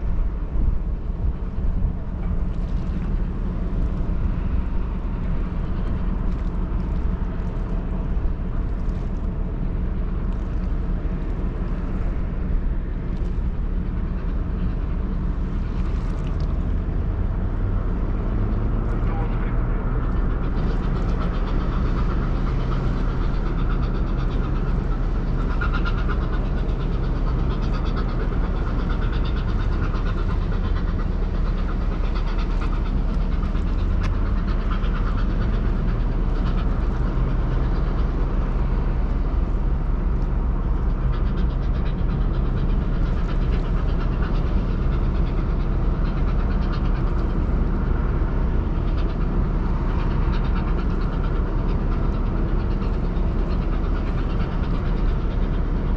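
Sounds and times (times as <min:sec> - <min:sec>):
ship engines droning: 0:00.0 - 0:55.9.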